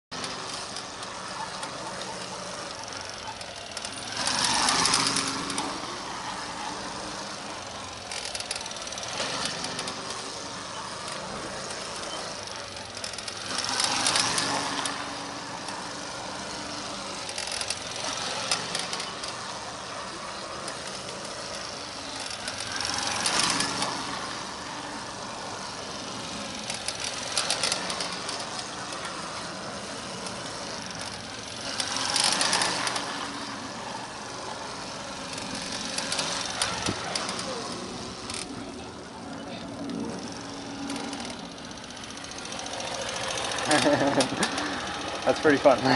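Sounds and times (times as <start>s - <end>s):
mini bike engines droning: 0.1s - 45.9s.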